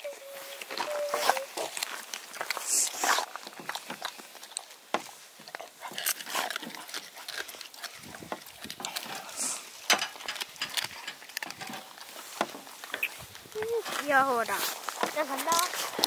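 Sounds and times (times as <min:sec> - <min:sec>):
dog eating with wet smacking: 0:00.6 - 0:13.8.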